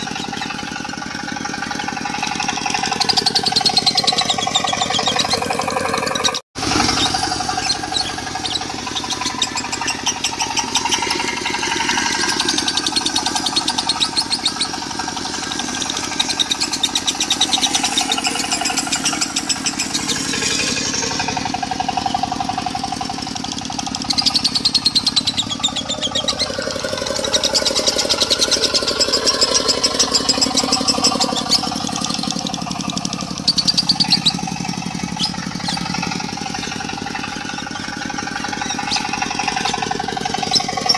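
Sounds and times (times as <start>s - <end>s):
bird chattering song: 0.0s - 40.9s
diesel engine running: 0.0s - 40.9s.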